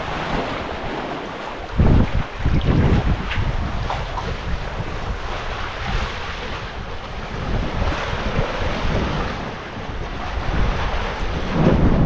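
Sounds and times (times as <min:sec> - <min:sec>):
rushing sea water: 0:00.0 - 0:12.0
wind buffeting microphone: 0:00.0 - 0:12.0.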